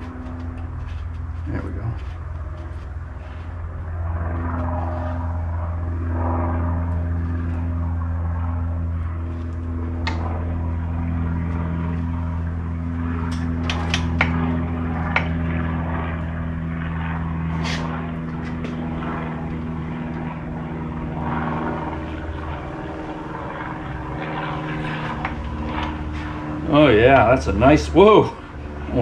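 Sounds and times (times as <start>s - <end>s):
steady low machine hum: 0.0s - 29.0s.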